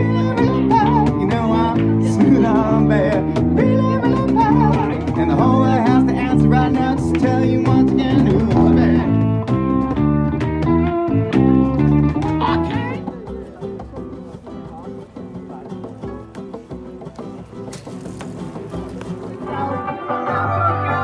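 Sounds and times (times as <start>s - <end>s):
band playing guitar-led music: 0.0s - 21.0s.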